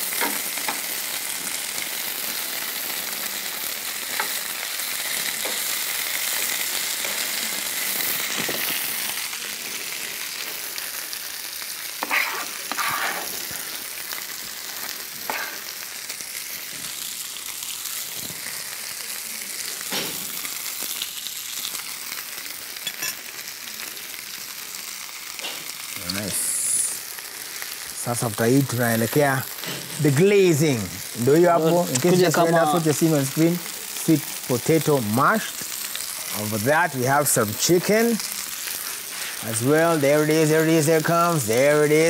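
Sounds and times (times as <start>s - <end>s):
chicken sizzling in a hot pan: 0.0s - 42.0s.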